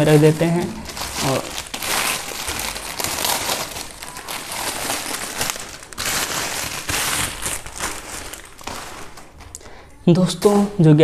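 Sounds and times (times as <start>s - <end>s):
plastic wrapping crinkling: 0.0s - 10.9s.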